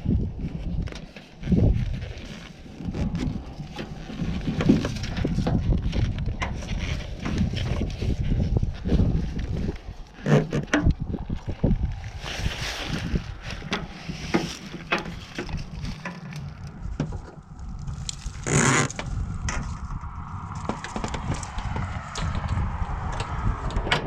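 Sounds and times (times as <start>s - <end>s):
steady low rumble: 1.5s - 24.0s.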